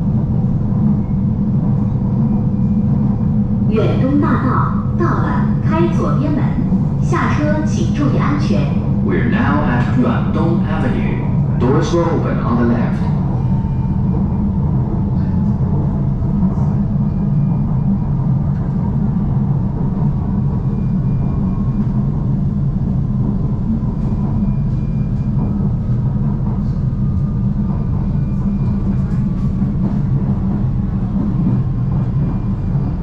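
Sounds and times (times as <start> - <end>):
train car hum and rumble: 0.0 - 33.0.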